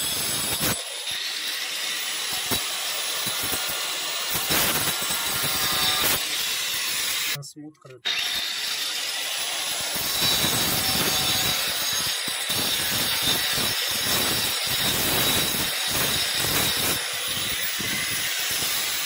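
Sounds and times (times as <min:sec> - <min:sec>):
angle grinder cutting: 0:00.0 - 0:07.4, 0:08.0 - 0:19.0.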